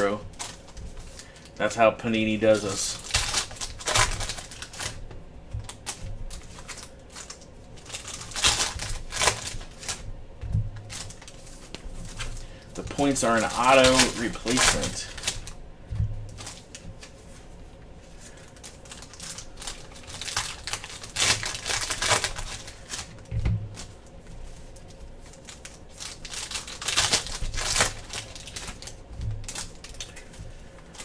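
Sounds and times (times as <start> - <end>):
cards tapping and rustling: 0.0 - 17.4, 18.2 - 31.0
foil wrappers crinkling: 0.0 - 31.0.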